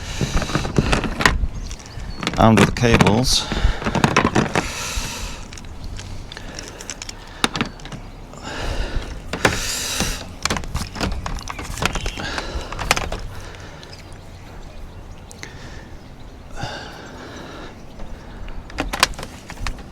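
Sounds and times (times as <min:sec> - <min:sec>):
clicks and knocks of handling: 0:00.0 - 0:14.2, 0:17.9 - 0:19.9
rustling: 0:00.0 - 0:14.2, 0:17.5 - 0:19.9.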